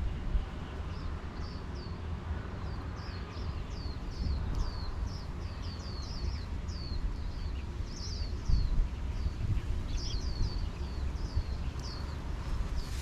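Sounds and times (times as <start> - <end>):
wind rumbling on microphone: 0.0 - 13.0
bird chirping: 2.6 - 13.0.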